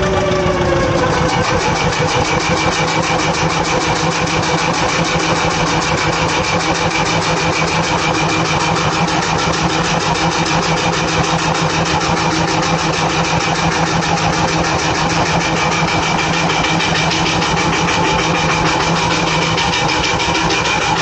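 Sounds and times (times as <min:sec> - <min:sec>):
belt machinery running: 0:00.0 - 0:21.0.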